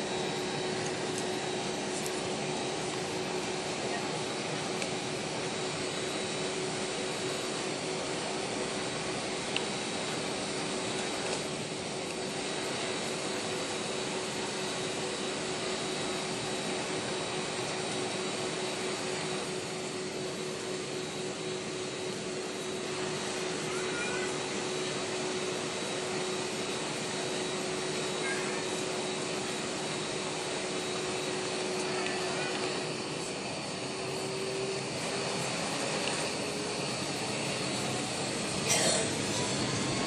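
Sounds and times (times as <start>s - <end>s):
faint high whine: 0.0s - 40.0s.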